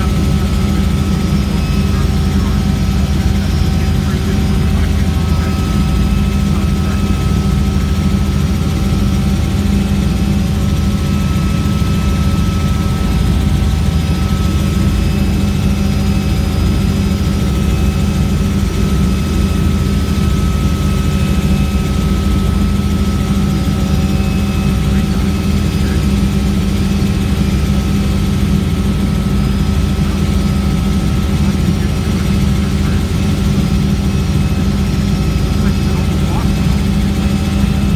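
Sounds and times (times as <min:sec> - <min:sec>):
helicopter engine and rotor drone: 0:00.0 - 0:37.9
thin steady whine: 0:00.0 - 0:37.9.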